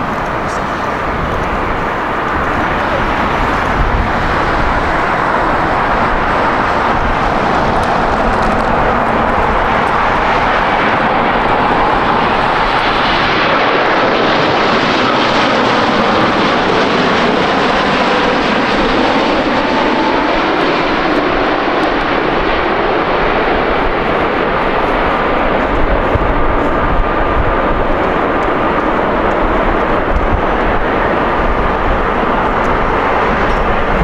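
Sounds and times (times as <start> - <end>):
faint engine whine: 0.0 - 34.0
jet engines rushing: 0.0 - 34.0.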